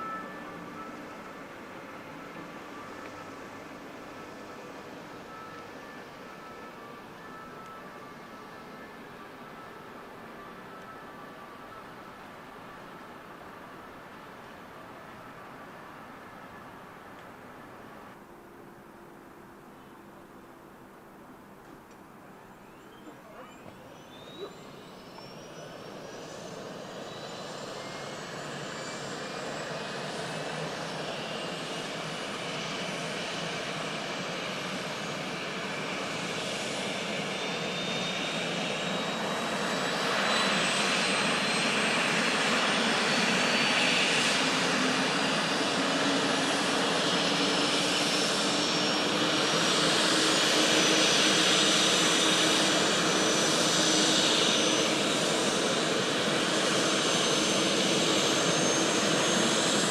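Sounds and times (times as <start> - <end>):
helicopter turbine whine rising: 0.0 - 20.2, 22.7 - 59.9.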